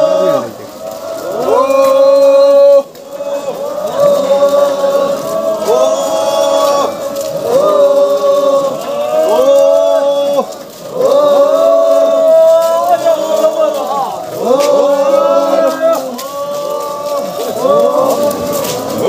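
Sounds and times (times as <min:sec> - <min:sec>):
group chanting in unison: 0:00.0 - 0:19.0.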